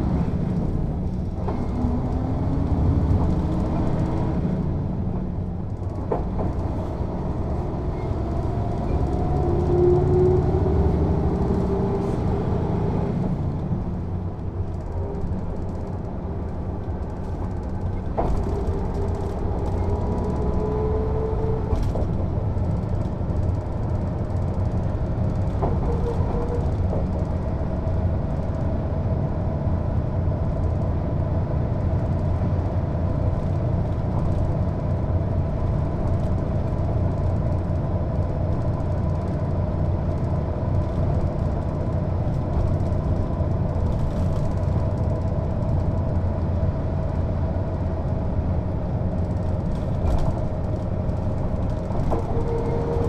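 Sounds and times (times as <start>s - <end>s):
bus diesel engine droning: 0.0s - 53.0s.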